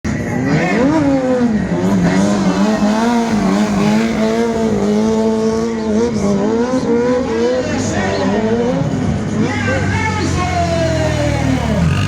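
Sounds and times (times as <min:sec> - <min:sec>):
motorcycle engine at high revs: 0:00.6 - 0:07.5, 0:09.2 - 0:12.0.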